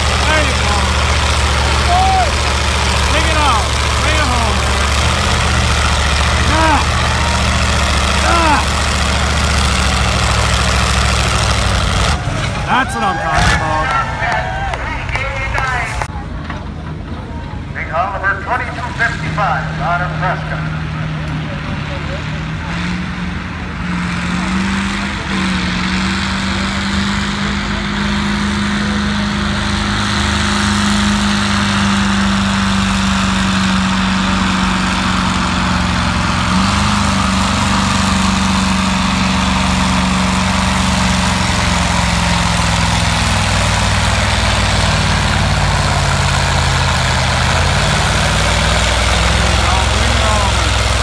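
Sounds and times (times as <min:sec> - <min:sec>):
tractor diesel engine under load: 0:00.0 - 0:51.0.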